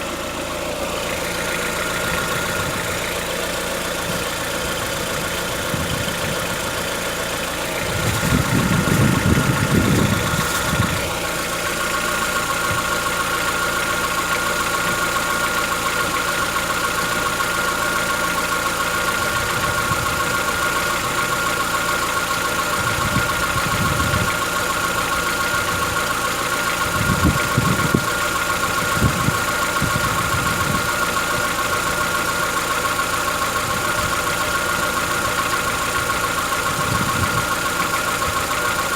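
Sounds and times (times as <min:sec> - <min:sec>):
car engine idling with knocking: 0:00.0 - 0:38.9
low engine rumbles: 0:00.0 - 0:38.9.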